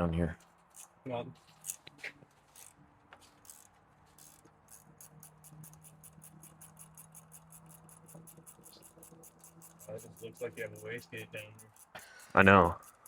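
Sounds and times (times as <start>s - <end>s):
ratchet wrench clicking: 0.7s - 1.9s, 2.5s - 13.0s.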